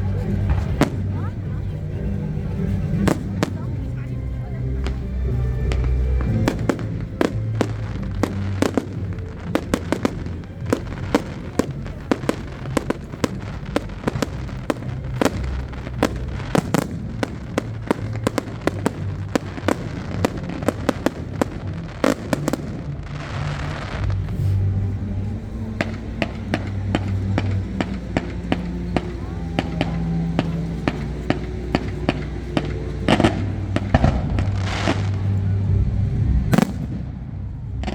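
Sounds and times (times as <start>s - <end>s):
fireworks bangs and cracks: 0.0s - 4.1s, 4.8s - 37.9s
hissing rush: 0.0s - 35.7s.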